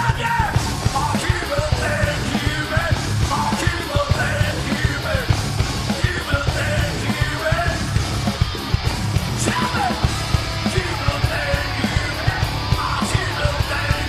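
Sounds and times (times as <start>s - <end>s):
distorted guitar with slide notes: 0.0s - 14.0s
pounding drums: 0.0s - 14.0s
yelled vocals: 0.0s - 14.0s.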